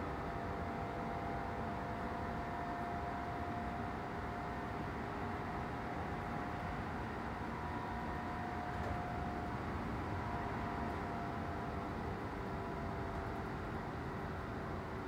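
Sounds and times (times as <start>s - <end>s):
faint train whine: 0.0s - 15.0s.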